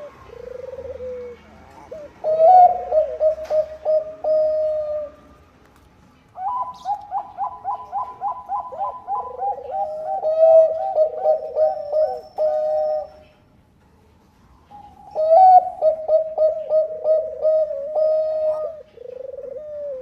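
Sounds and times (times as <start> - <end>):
dove cooing: 0.0 - 5.3, 6.4 - 13.4, 14.7 - 20.0.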